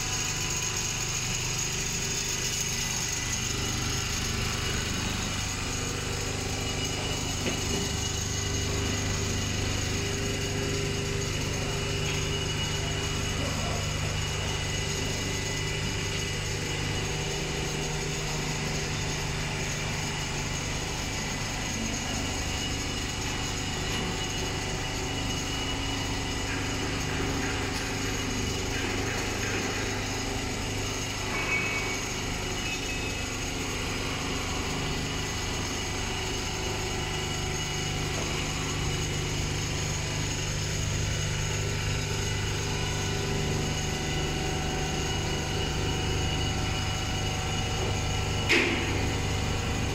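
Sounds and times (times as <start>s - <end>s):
quilting machine humming: 0.0s - 49.9s.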